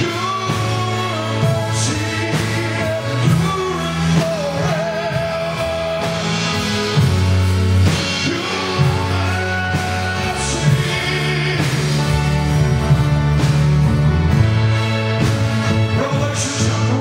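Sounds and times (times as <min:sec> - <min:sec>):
man singing: 0:00.0 - 0:13.7, 0:15.6 - 0:17.0
band holding sustained chords: 0:00.0 - 0:17.0
drum kit: 0:00.0 - 0:17.0.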